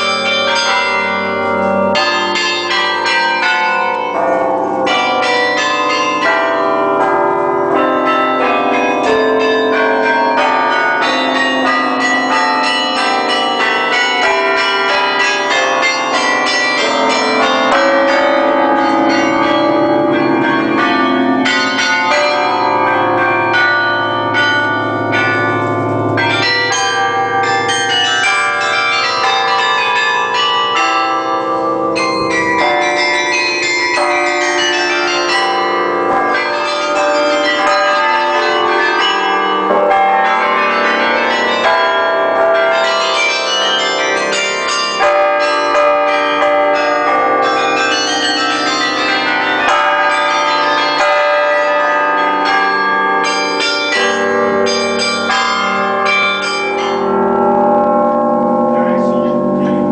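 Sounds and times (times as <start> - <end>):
carillon bells playing a tune: 0.0 - 59.9.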